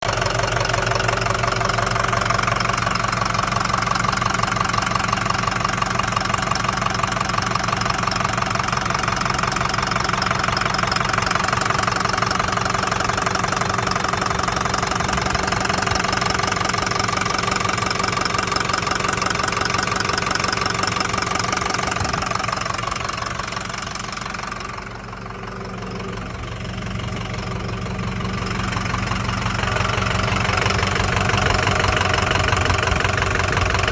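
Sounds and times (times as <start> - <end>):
diesel engine knocking: 0.0 - 33.9.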